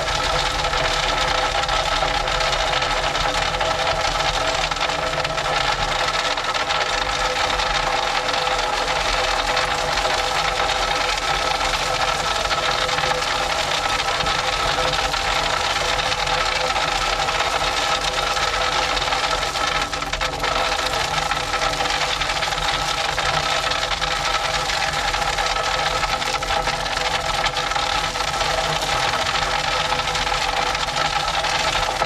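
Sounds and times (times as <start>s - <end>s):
machine engine running with rattle: 0.0s - 32.0s.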